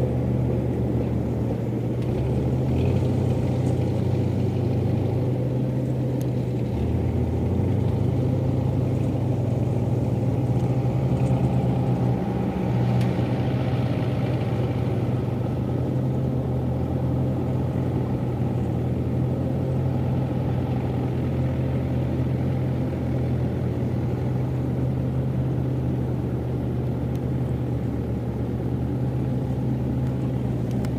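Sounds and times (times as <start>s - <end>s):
engine low drone: 0.0s - 30.9s.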